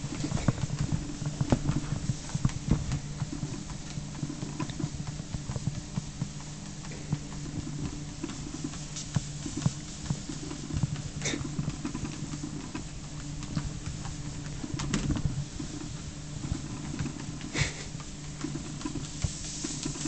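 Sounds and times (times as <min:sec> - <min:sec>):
cat paws on moving belt: 0:00.0 - 0:20.0
treadmill motor and belt humming: 0:00.0 - 0:20.0.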